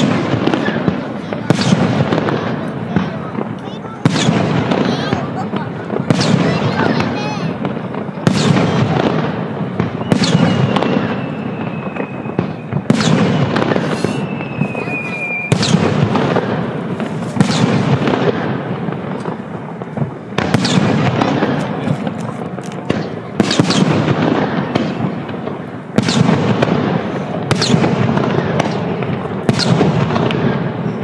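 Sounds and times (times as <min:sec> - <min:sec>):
fireworks shells bursting: 0:00.0 - 0:30.6
fireworks crackling: 0:00.0 - 0:31.0
low rumbling echo: 0:00.0 - 0:31.0.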